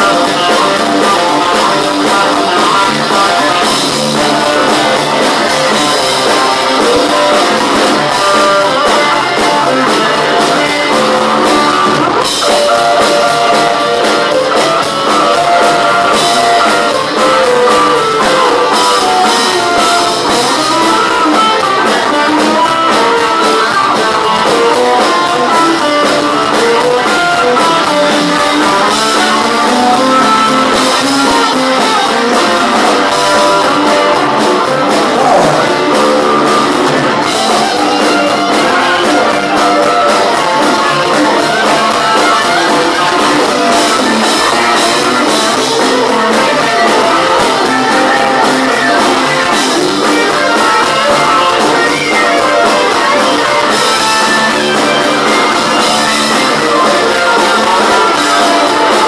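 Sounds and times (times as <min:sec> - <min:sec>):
blues-rock band playing: 0:00.0 - 0:59.0
electric guitar lead bending: 0:00.0 - 0:59.0.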